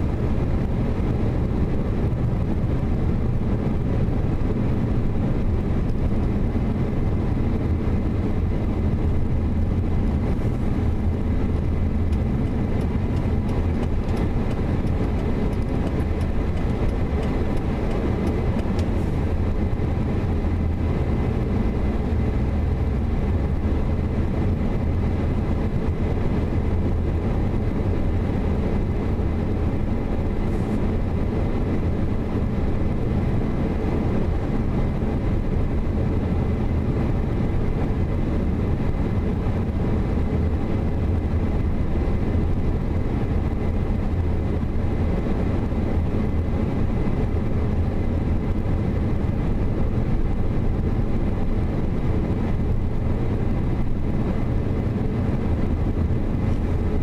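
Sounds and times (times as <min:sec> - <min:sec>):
car interior engine and tyre rumble: 0:00.0 - 0:57.0.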